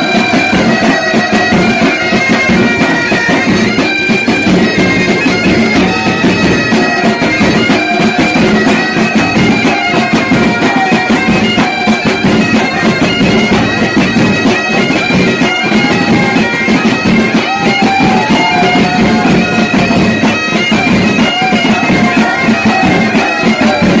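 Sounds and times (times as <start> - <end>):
bagpipe music with drone: 0.0 - 24.0.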